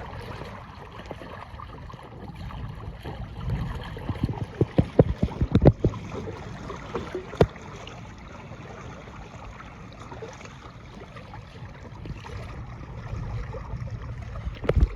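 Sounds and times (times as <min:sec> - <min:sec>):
water rushing along kayak hull: 0:00.0 - 0:14.9.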